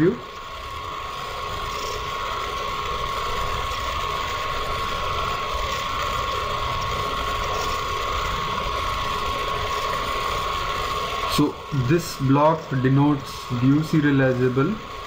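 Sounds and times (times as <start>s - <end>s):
high-pitched whine: 0.0s - 15.0s
steady whirring noise: 0.0s - 15.0s.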